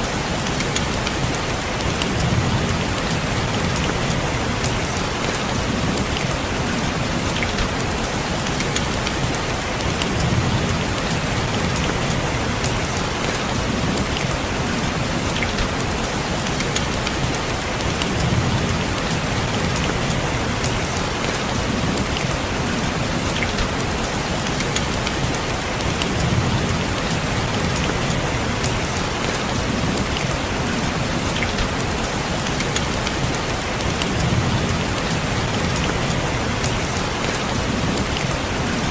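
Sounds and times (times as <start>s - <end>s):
rain on a window: 0.0s - 38.9s.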